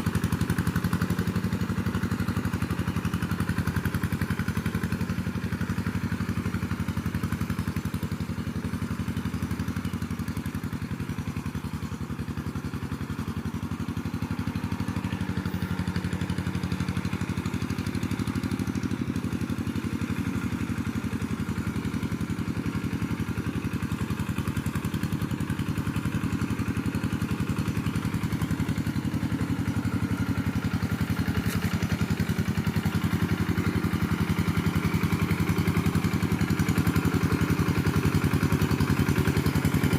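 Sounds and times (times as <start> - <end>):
chainsaw engine running steadily: 0.0 - 39.9.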